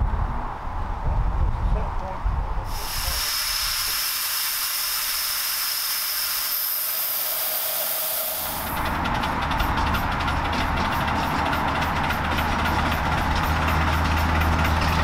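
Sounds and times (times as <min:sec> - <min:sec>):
steam locomotive hissing: 0:02.7 - 0:15.0.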